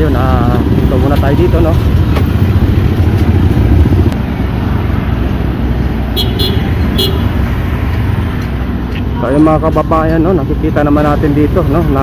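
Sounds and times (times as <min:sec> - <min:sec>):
motorcycle traffic passing: 0:00.0 - 0:12.0.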